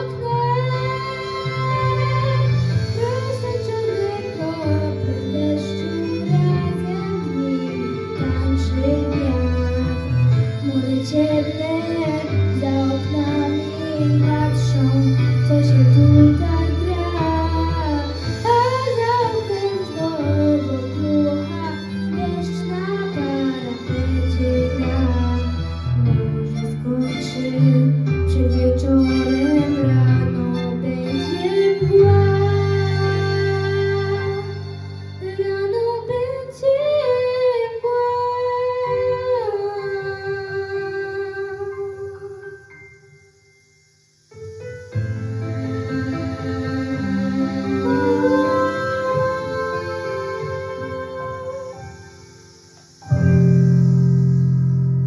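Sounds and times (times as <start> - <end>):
woman singing: 0.0 - 42.7, 45.6 - 52.0
instrumental accompaniment: 0.0 - 55.0.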